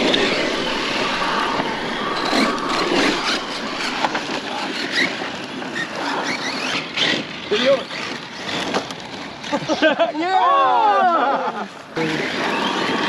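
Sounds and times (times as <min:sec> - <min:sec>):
electric toy car motor whirring: 0:00.0 - 0:09.7, 0:12.0 - 0:13.0.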